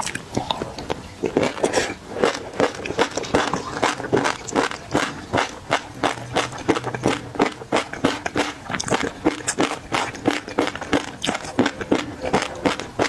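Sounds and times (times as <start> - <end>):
close chewing crunches: 0.0 - 13.0.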